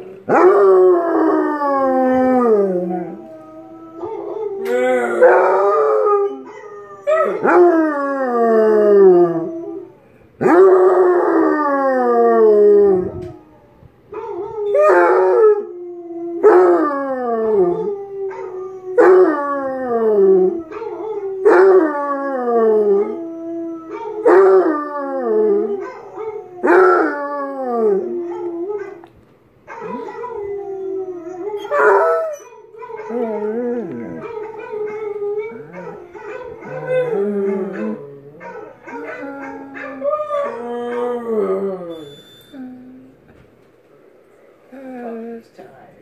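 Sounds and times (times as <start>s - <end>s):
dog howling: 0.3s - 29.1s, 29.7s - 43.1s.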